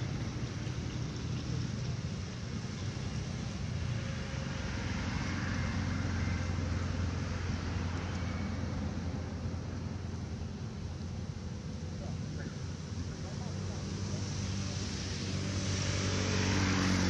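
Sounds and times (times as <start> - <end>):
engine rumble: 0.0 - 17.0
outdoor background noise: 0.0 - 17.0.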